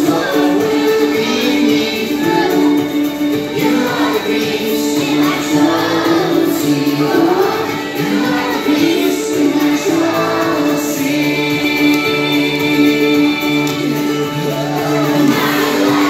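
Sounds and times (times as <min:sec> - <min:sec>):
children singing: 0:00.0 - 0:16.0
musical accompaniment: 0:00.0 - 0:16.0.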